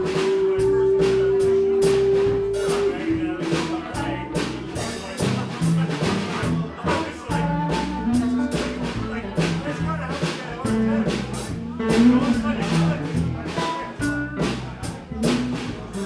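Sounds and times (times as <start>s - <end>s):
blues band playing: 0.0s - 16.0s
held lead notes: 0.0s - 16.0s
steady drum beat: 0.0s - 16.0s.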